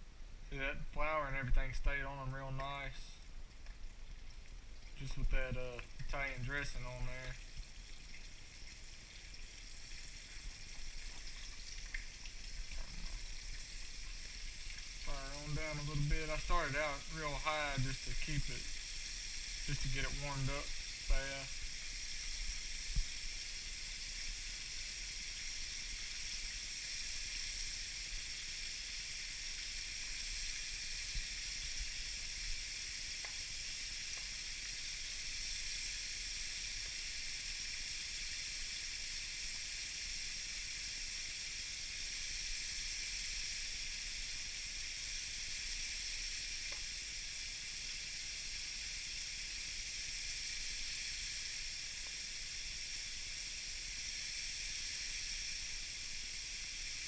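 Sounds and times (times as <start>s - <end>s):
food sizzling in hot oil: 2.6s - 57.0s.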